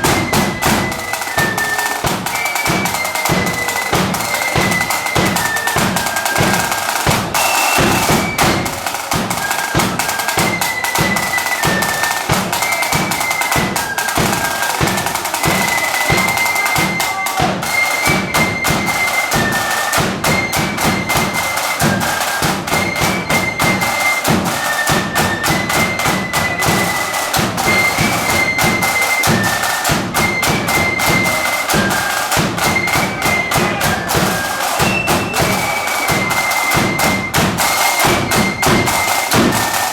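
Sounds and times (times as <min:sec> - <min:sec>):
bass and snare drum beats: 0:00.0 - 0:39.9
flute melody: 0:00.0 - 0:39.9.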